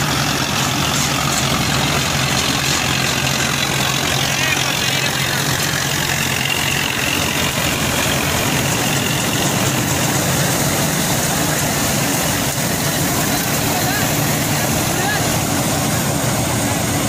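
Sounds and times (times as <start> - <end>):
combine harvester running: 0.0 - 17.0
low engine hum: 0.0 - 17.0.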